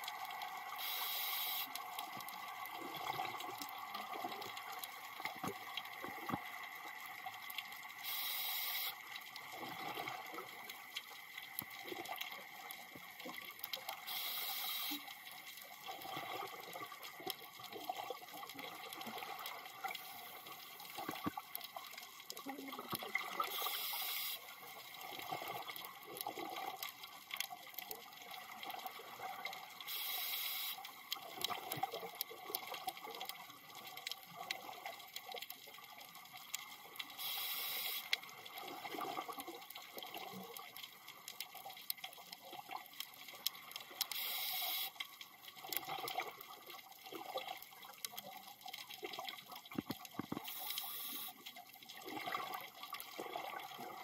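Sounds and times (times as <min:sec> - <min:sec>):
crackle of clicks: 0:00.0 - 0:54.0.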